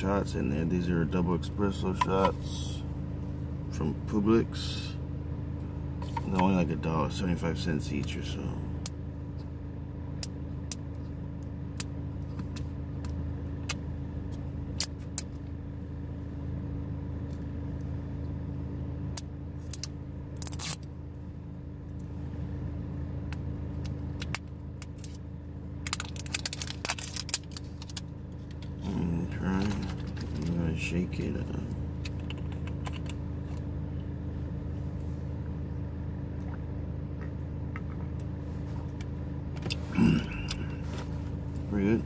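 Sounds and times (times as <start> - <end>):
car idling hum: 0.0 - 42.0.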